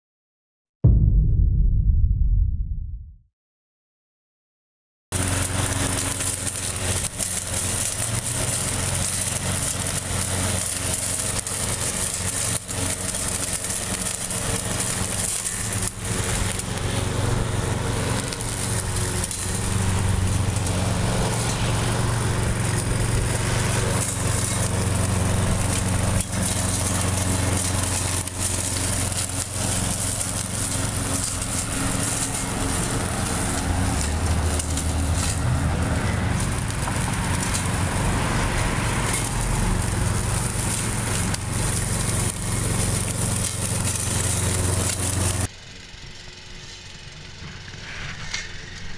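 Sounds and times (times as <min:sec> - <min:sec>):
lawn mower engine running: 0:05.1 - 0:48.9.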